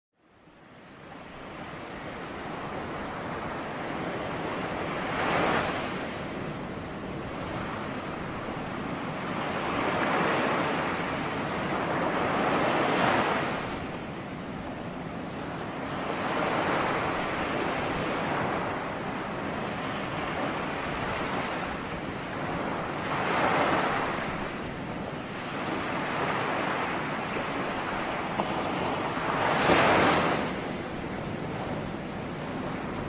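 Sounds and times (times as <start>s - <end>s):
ocean waves breaking on shore: 0.3s - 33.0s.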